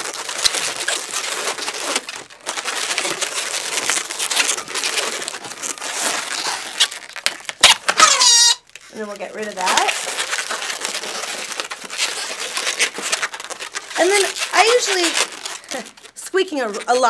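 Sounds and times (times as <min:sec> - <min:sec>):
balloons rubbing and squeaking: 0:00.0 - 0:17.0.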